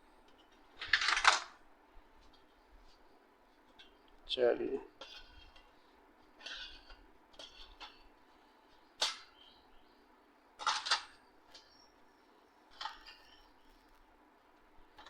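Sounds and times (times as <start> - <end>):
light scraping and rattling: 0.0 - 9.7, 10.6 - 15.0.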